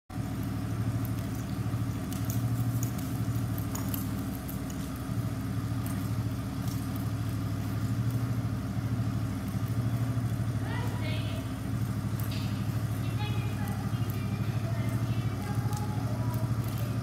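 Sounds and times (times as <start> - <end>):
engine idling hum: 0.1 - 17.0
faint high clicks and jingles: 0.1 - 17.0.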